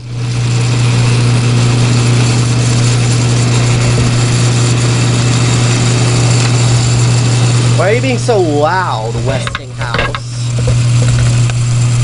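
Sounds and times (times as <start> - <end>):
electric fan motor humming: 0.0 - 12.0
fan blade whirring: 0.0 - 12.0.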